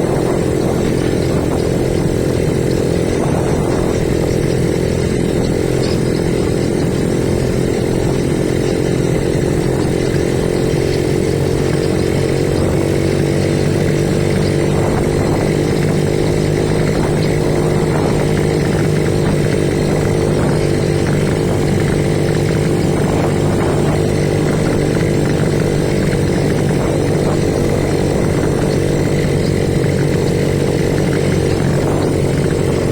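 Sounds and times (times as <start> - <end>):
motorbike engine running: 0.0 - 32.9.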